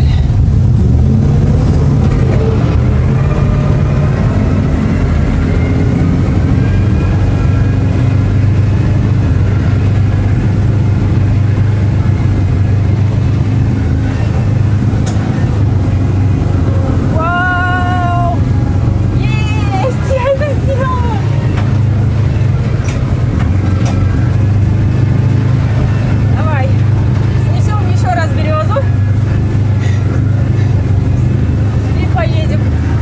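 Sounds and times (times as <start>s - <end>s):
armoured car engine droning: 0.0s - 33.0s.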